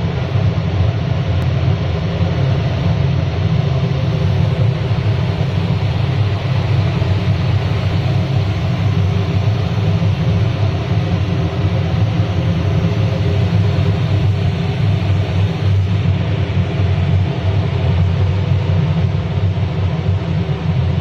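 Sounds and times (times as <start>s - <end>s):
furnace burner and blower roaring: 0.0s - 21.0s.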